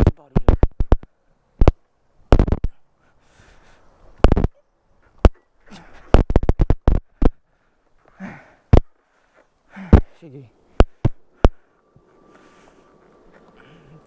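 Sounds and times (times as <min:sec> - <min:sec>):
breathy puffs: 0:02.5 - 0:14.0.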